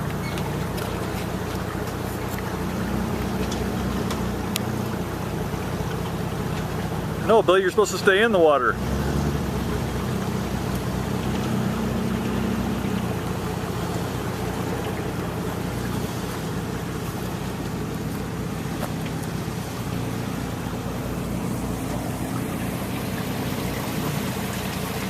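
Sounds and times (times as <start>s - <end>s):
vehicle engine running: 0.0s - 25.0s
water washing: 0.0s - 25.0s.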